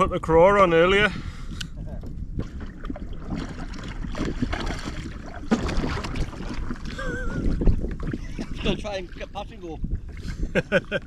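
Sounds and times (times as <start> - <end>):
water lapping against a hull: 0.0 - 11.0
wind rumbling on microphone: 0.0 - 11.0.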